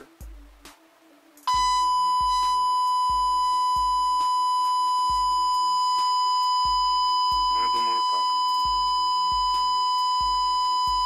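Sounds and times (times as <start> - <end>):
distorted sine test tone: 1.5 - 11.0.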